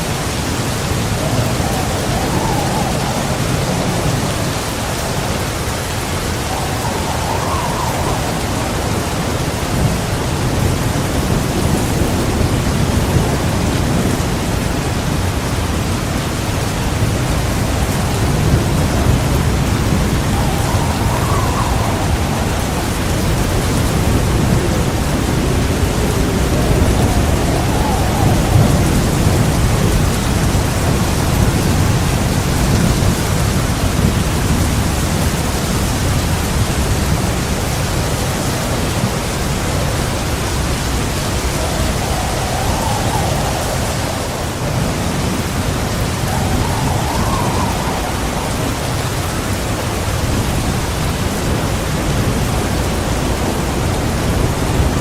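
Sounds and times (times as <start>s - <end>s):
heavy rain pouring: 0.0s - 55.0s
rolling thunder rumble: 0.0s - 55.0s.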